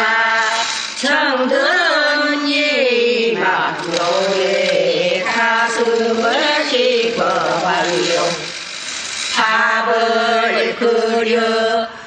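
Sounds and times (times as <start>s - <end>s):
person singing folk song: 0.0s - 8.7s, 9.3s - 12.0s.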